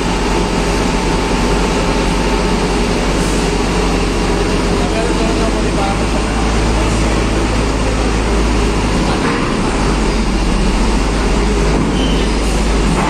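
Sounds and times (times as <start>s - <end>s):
diesel truck rumble: 0.0s - 13.0s
ship machinery drone: 0.0s - 13.0s.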